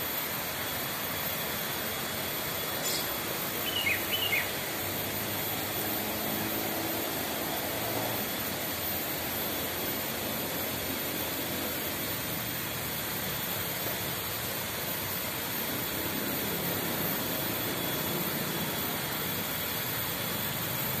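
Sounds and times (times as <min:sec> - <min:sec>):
wide rushing outdoor noise: 0:00.0 - 0:21.0.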